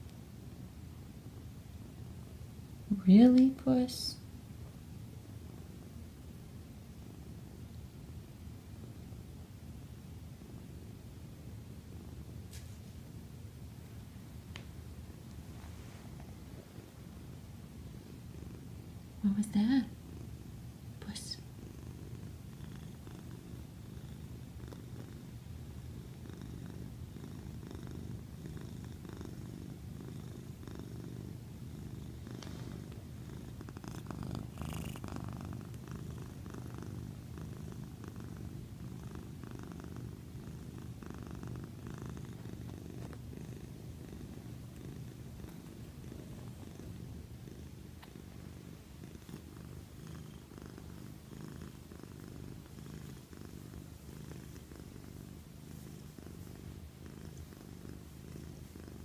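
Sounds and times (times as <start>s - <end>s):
cat purring: 0.0s - 59.0s.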